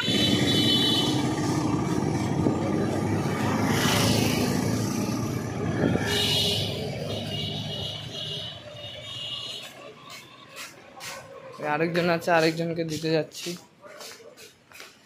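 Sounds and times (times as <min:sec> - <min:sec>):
vehicle engines running: 0:00.0 - 0:13.8.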